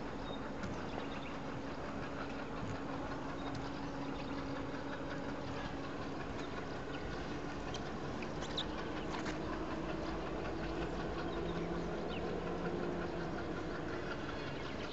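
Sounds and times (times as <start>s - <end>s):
diesel locomotive engine rumbling: 0.0s - 14.9s.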